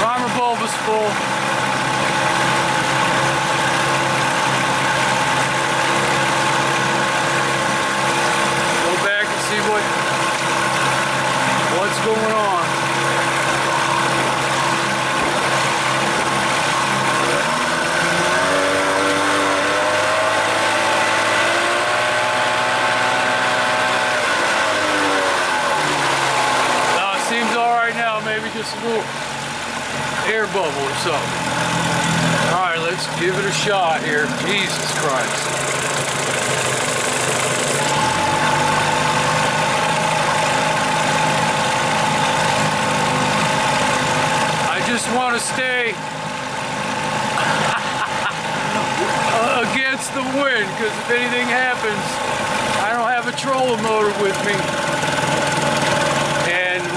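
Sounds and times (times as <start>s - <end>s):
outboard motor revving: 0.0s - 56.9s.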